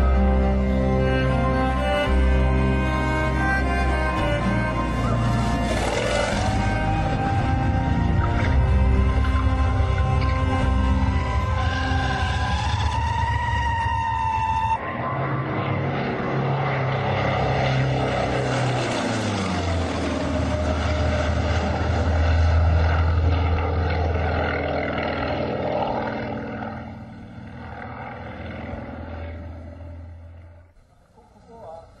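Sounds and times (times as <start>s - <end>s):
propeller plane engine: 0.0s - 32.0s.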